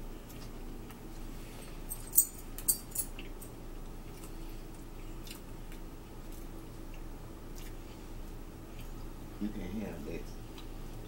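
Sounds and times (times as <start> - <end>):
people chewing sandwiches: 0.0 - 9.6
faint steady hum: 0.0 - 11.0.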